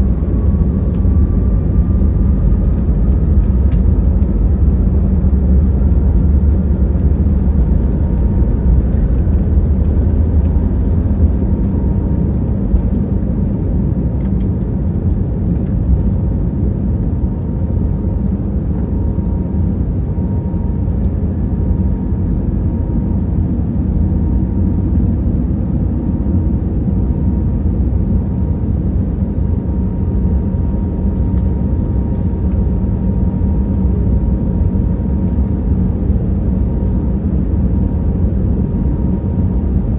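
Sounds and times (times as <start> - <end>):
faint steady engine whine: 0.0 - 39.9
jet engines deep rumble: 0.0 - 39.9.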